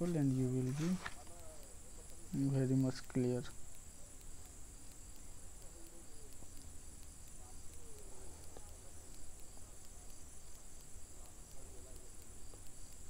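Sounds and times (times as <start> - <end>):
faint ticks: 0.0 - 13.0
insects chirring: 0.0 - 13.0.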